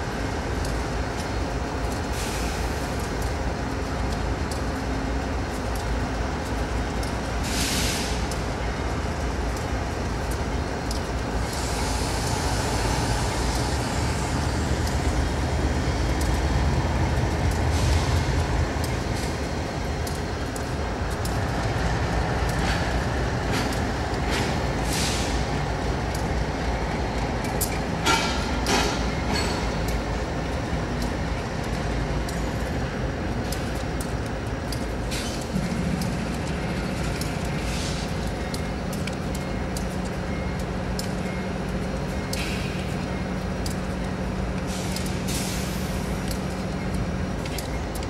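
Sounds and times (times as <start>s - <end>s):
locomotive engine rumble: 0.0s - 48.0s.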